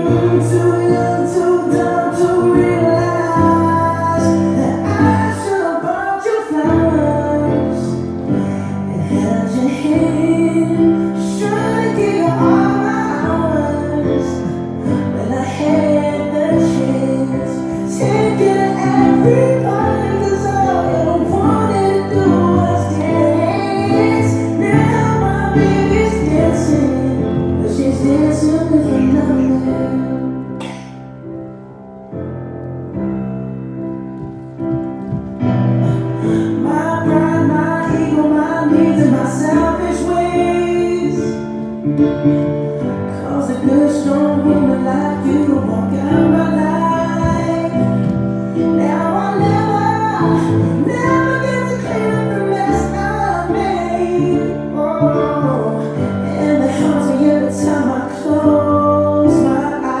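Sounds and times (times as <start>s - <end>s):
person singing: 0.0s - 31.1s, 34.7s - 60.0s
instrumental accompaniment: 9.8s - 60.0s.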